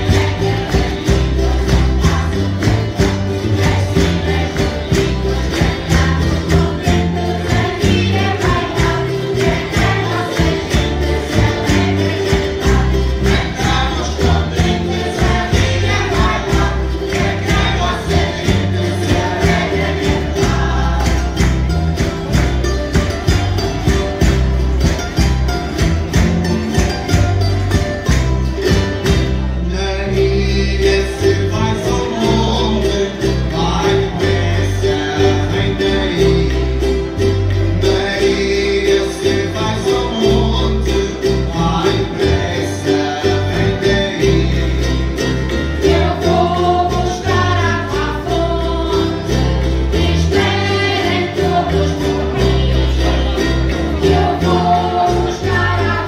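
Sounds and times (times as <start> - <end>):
voices singing: 0.0 - 24.3, 29.5 - 56.0
strummed string instruments: 0.0 - 56.0.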